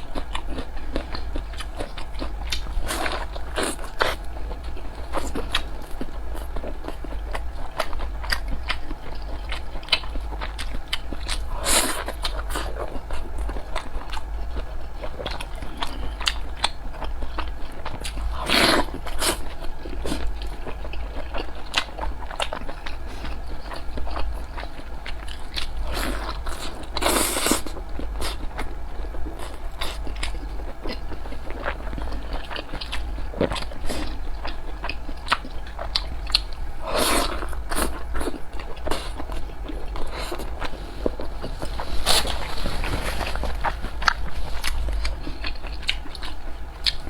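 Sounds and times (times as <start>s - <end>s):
wet chewing mouth sounds: 0.0s - 47.0s.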